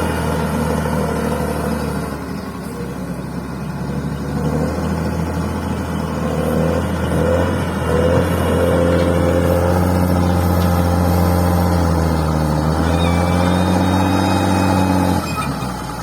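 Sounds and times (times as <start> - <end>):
bulldozer diesel engine under load: 0.0 - 16.0.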